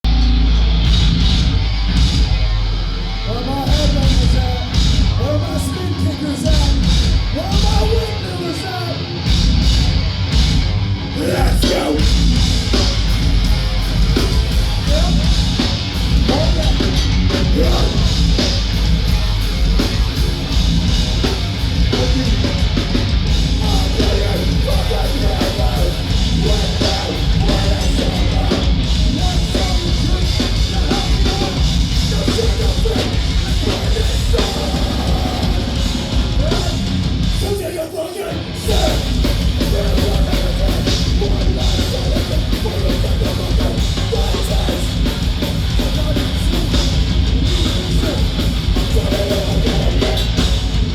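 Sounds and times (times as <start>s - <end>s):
heavy metal band playing: 0.0s - 50.9s.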